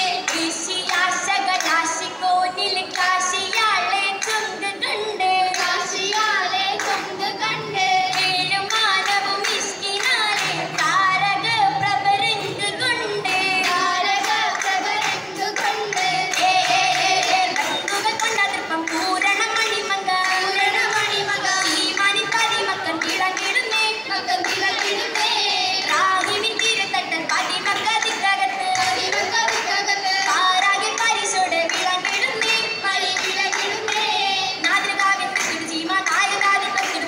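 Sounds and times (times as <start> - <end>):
rhythmic hand-clapping: 0.0 - 37.0
voices singing: 0.0 - 37.0.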